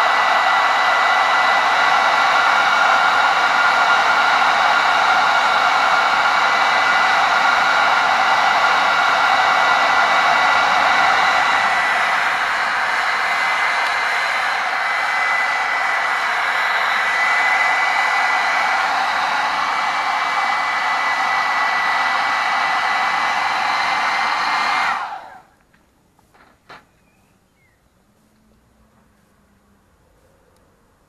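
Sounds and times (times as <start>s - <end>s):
hairdryer blowing air: 0.0s - 25.6s.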